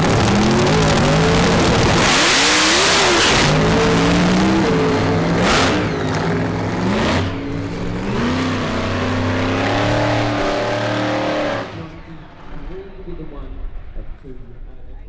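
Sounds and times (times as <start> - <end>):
drag car accelerating hard: 0.0 - 14.0.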